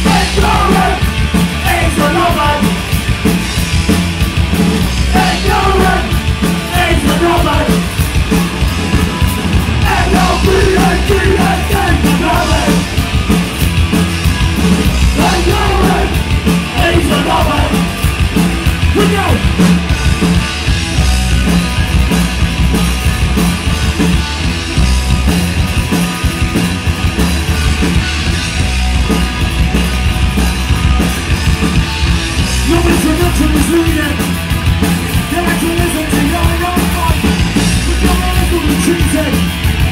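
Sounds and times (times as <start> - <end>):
punk rock band playing live: 0.0 - 39.9.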